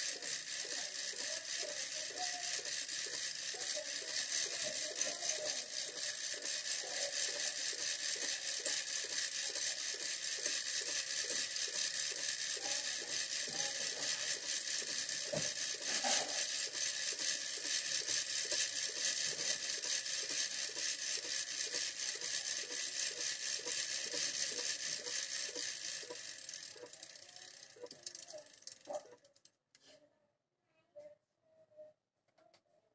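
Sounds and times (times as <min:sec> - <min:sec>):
coil winding machine whirring: 0:00.0 - 0:29.4.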